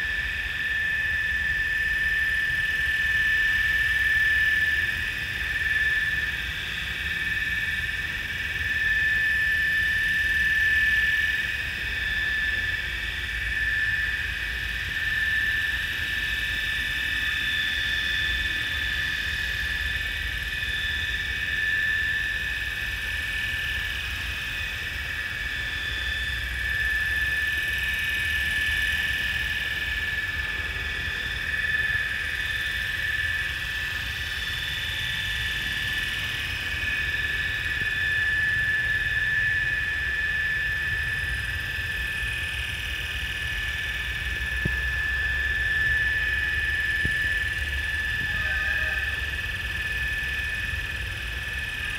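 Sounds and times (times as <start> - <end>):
model helicopter hovering: 0.0 - 51.9.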